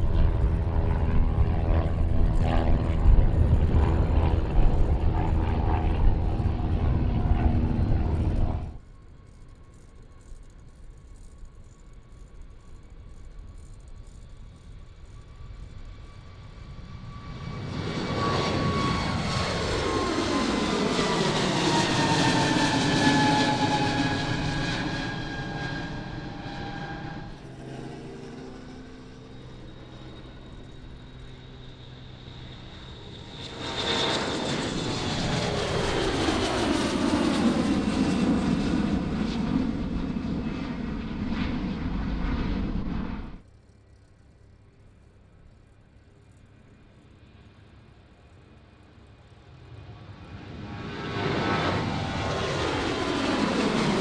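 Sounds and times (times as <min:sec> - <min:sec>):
jet airliner passing: 0:00.0 - 0:43.4, 0:45.9 - 0:54.0.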